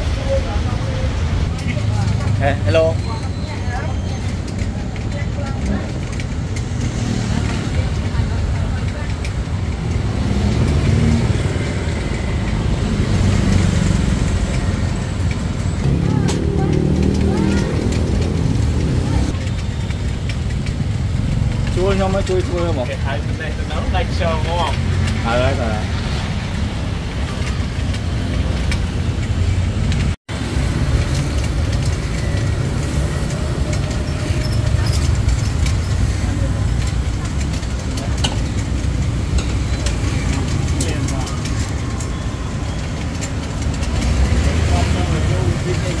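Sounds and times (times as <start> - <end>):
road traffic rumble: 0.0 - 46.0
vehicle engine running: 0.0 - 46.0.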